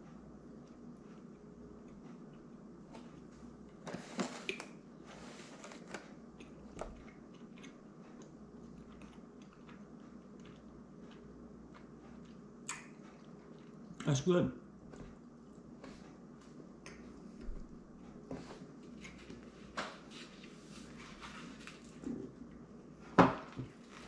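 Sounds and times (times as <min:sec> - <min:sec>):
man chewing food: 0:00.0 - 0:24.0.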